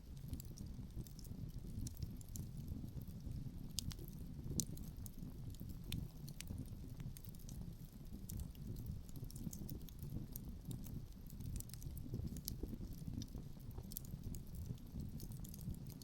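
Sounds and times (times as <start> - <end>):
low rumble of wind: 0.0 - 16.0
wood fire crackling and popping: 0.0 - 16.0.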